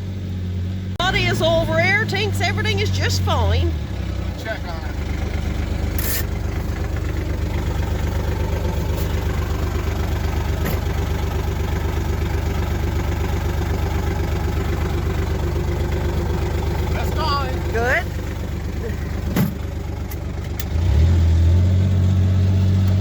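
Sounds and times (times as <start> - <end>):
engine running under load: 0.0 - 23.0.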